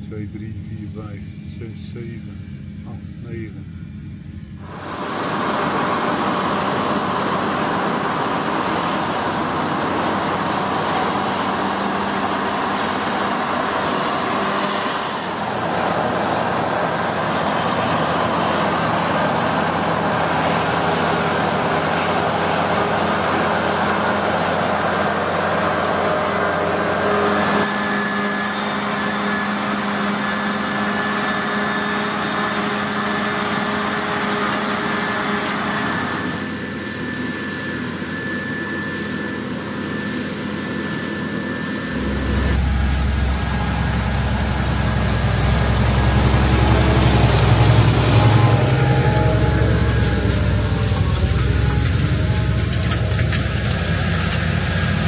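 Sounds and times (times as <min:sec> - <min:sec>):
combine harvester mechanical drone: 0:00.0 - 0:55.0.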